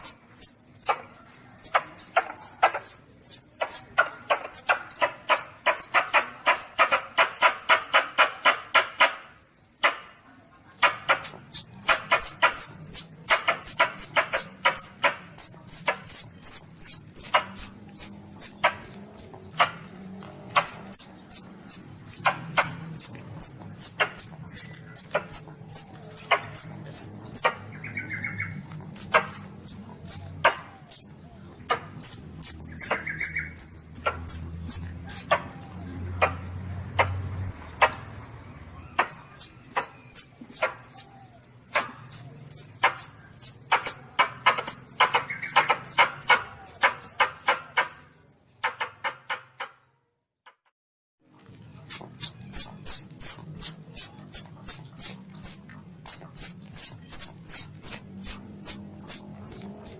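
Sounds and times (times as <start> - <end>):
baby civet squeaking calls: 0.0 - 8.6, 10.8 - 19.9, 20.5 - 36.4, 38.8 - 48.0, 51.8 - 59.9.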